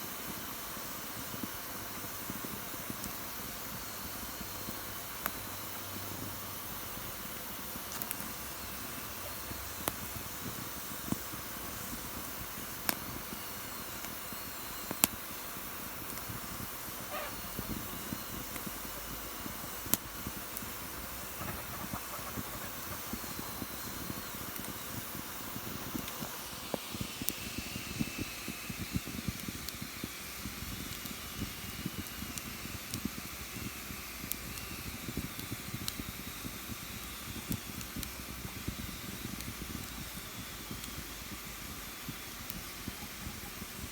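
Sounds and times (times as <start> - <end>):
fire crackling and hissing: 0.0 - 43.9.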